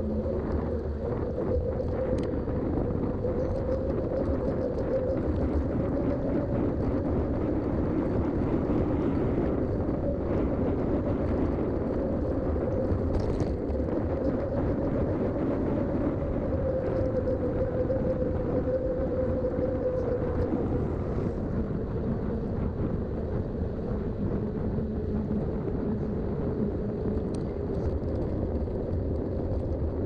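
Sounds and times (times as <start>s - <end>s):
bike tyres humming on road: 0.0s - 30.0s
wind noise on microphone: 0.0s - 30.0s.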